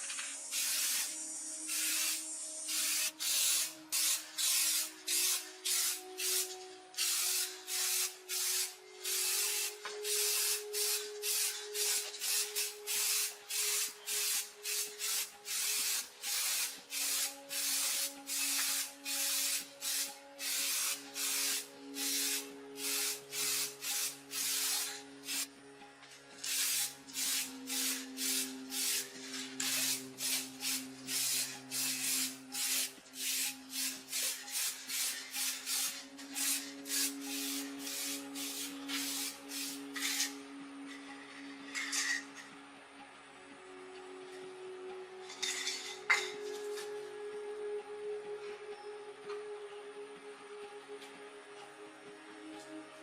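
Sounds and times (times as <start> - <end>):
faint background music: 0.0 - 53.0.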